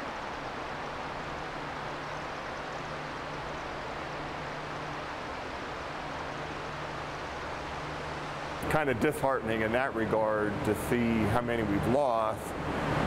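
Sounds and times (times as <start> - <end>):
low continuous hum: 0.0 - 13.0.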